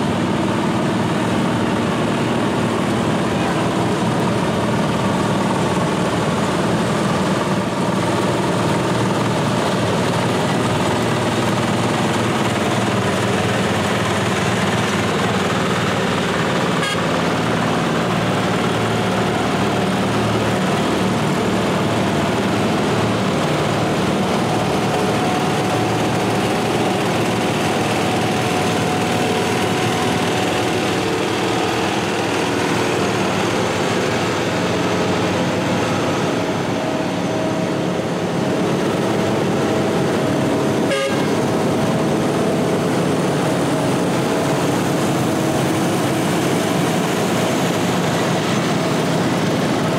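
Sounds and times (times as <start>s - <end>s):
garden tractor engines running: 0.0s - 49.9s.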